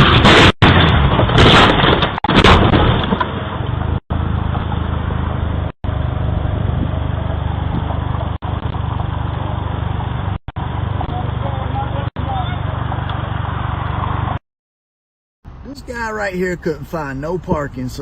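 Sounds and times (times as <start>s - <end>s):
car engine and road rumble: 0.0s - 14.4s, 15.5s - 18.0s.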